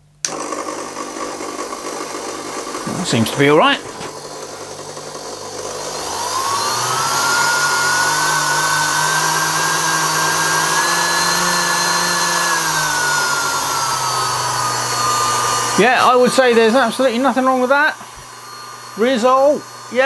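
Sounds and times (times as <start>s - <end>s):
electric motor whine: 0.2s - 20.0s.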